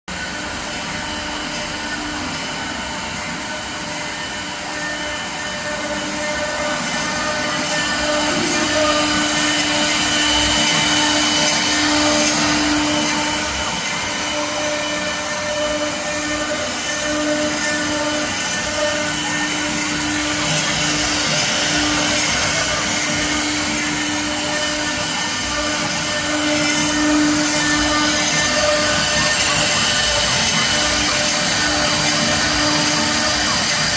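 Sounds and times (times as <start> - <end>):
cnc router whining: 0.1 - 33.9.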